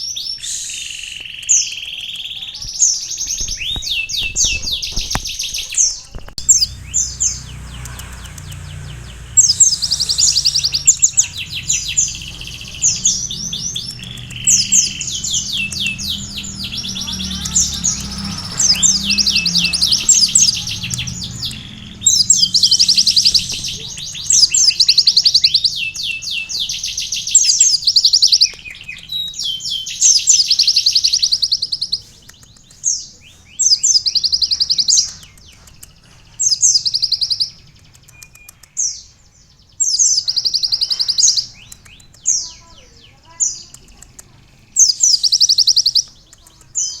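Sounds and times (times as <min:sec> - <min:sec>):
bird singing rapid trills: 0:00.0 - 0:47.0.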